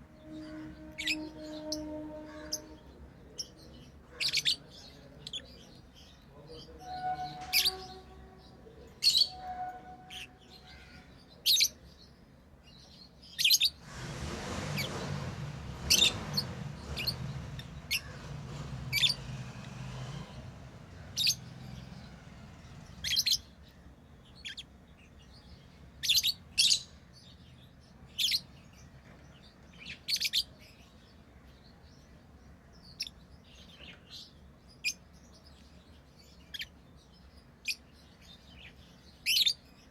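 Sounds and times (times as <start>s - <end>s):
lovebirds chirping: 0.0s - 13.8s, 14.8s - 39.9s.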